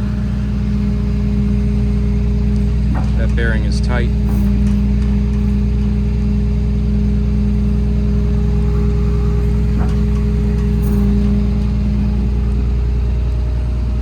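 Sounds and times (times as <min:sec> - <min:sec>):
diesel engine running: 0:00.0 - 0:14.0
hydraulic hum: 0:00.0 - 0:14.0.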